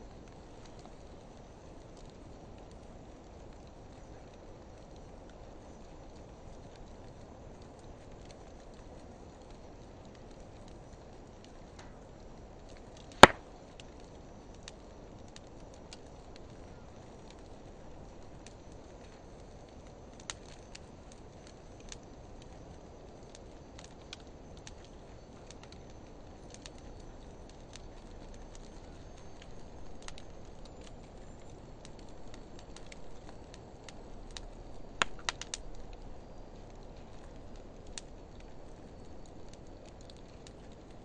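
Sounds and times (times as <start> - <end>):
faint fire crackles: 0.0 - 41.0
log fire popping: 0.0 - 41.0
wood fire burning: 0.0 - 41.0.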